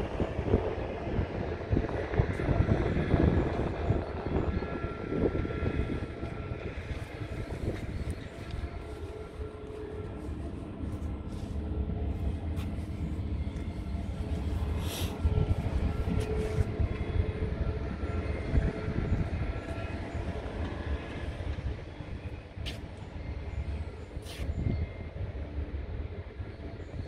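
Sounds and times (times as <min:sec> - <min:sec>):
faint steady whine: 0:00.0 - 0:27.0.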